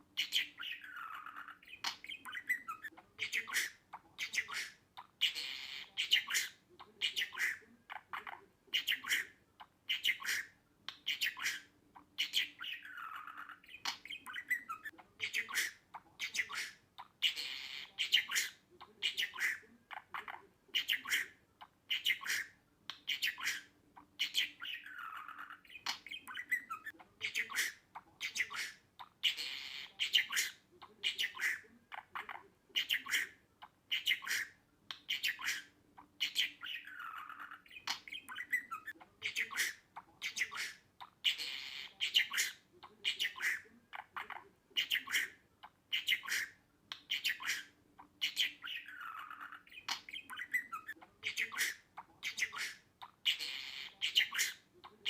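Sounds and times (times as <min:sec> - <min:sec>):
budgerigar chirping and squawking: 0:00.0 - 0:55.0.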